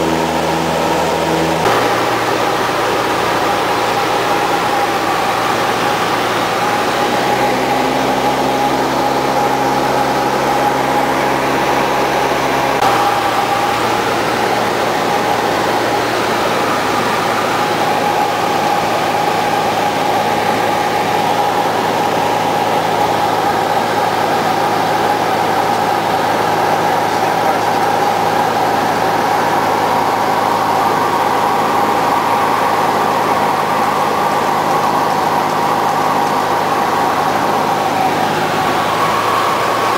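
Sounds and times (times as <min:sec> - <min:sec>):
airplane piston engine and propeller: 0:00.0 - 0:39.9.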